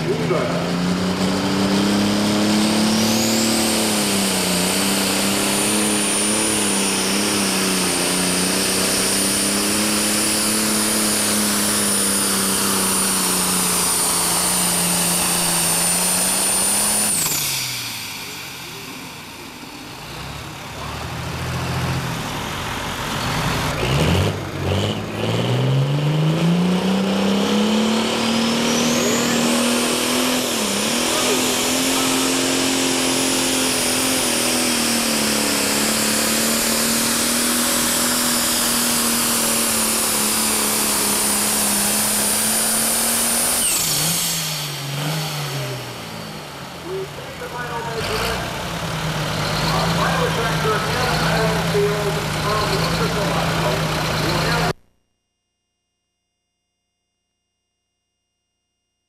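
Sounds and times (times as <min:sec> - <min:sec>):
diesel tractor engine with whine: 0:00.0 - 0:54.9
second tractor engine revving: 0:00.0 - 0:54.9.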